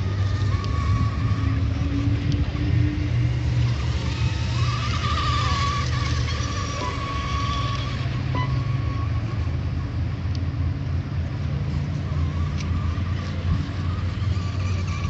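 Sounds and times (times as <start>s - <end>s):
model boat motors whining: 0.0s - 15.0s.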